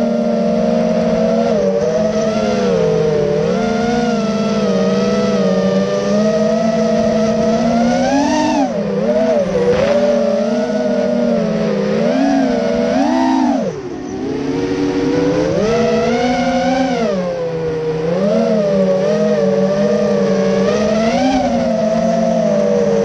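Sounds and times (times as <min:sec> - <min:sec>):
motorcycle engine revving: 0:00.0 - 0:23.0
wind rushing over microphone: 0:00.0 - 0:23.0.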